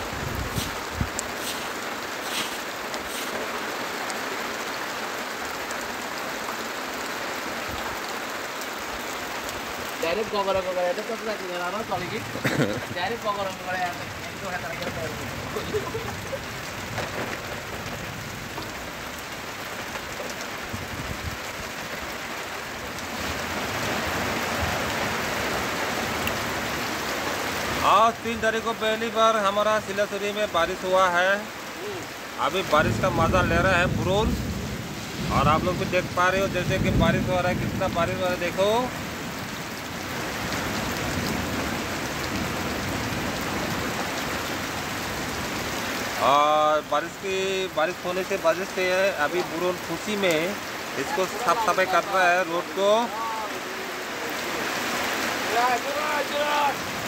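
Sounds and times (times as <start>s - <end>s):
rain falling on street and roofs: 0.0s - 57.0s.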